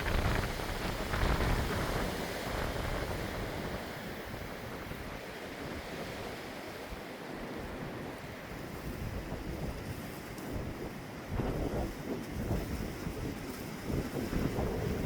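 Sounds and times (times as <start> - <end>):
strong wind gusting: 0.0 - 6.5, 7.4 - 15.0
wind buffeting microphone: 0.0 - 15.0.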